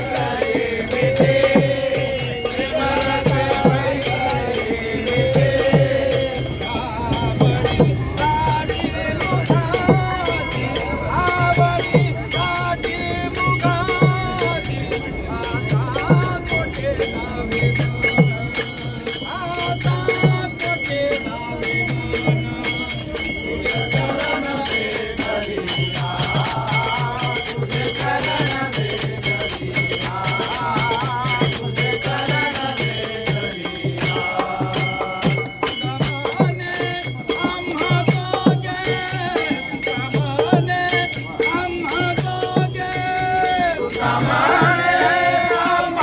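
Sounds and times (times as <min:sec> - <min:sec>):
group singing: 0:00.0 - 0:46.0
hand cymbals jangling: 0:00.0 - 0:46.0
hand drum beat: 0:00.0 - 0:46.0.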